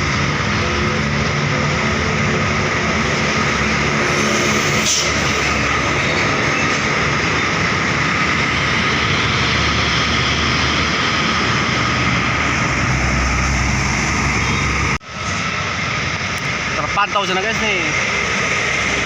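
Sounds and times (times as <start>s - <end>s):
deep engine rumble: 0.0s - 19.0s
heavy road traffic roar: 0.0s - 19.0s.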